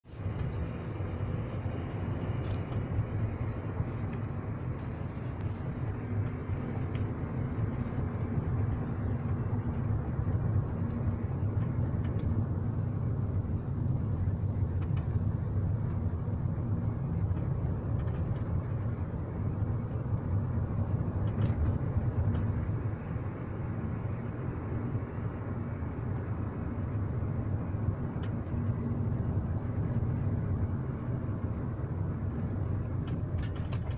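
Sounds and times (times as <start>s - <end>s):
road rumble of driving car: 0.0s - 33.9s.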